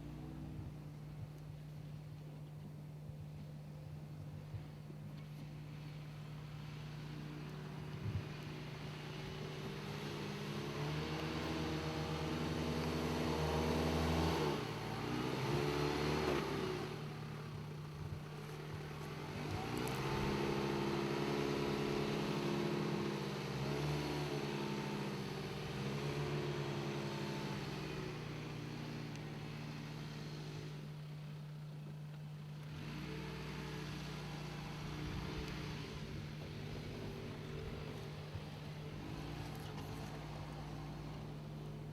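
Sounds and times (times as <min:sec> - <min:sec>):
car engine revving: 0:05.7 - 0:31.7, 0:32.4 - 0:41.9.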